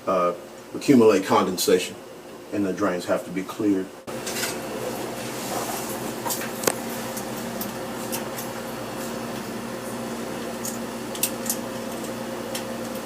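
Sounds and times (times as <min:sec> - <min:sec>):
furnace fan motor humming: 0:00.0 - 0:13.0.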